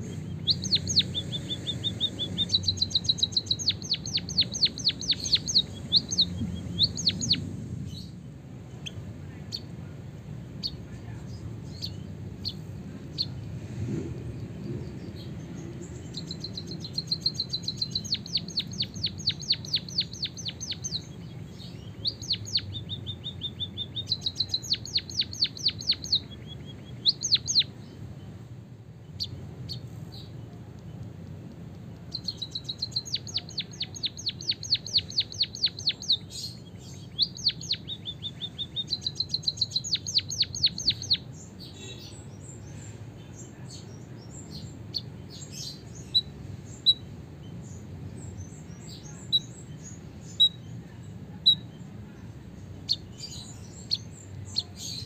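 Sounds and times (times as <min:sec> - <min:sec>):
munia singing rapid rolls: 0:00.0 - 0:55.0.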